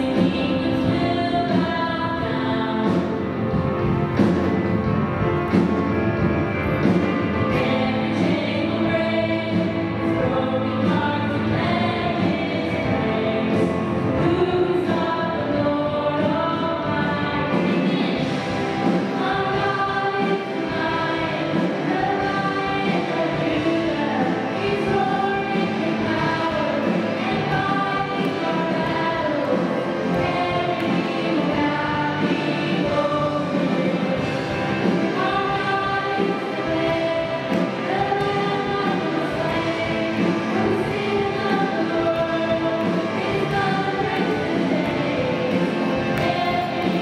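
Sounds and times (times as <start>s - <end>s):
group of voices singing: 0.0s - 3.4s, 6.8s - 47.0s
instrumental backing: 0.0s - 47.0s.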